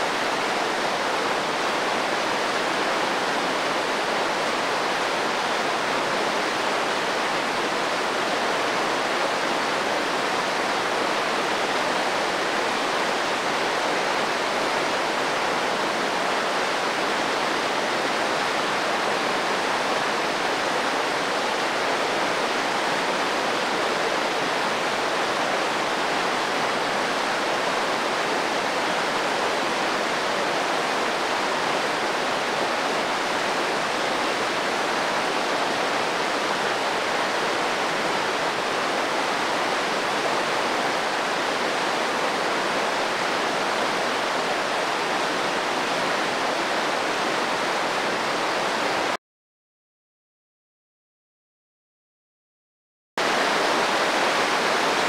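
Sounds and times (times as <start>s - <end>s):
water rushing over rocks: 0.0s - 49.2s, 53.2s - 55.0s.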